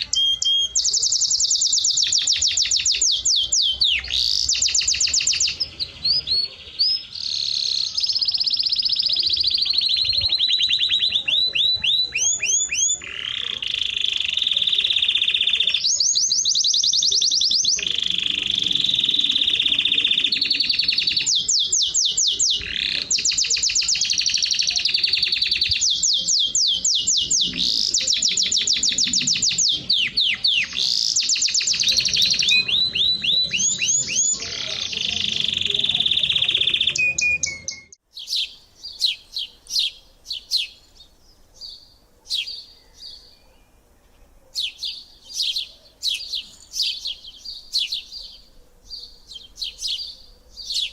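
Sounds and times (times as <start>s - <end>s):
songbirds trilling: 0.0s - 50.9s
sparse bird chirps: 0.0s - 50.9s.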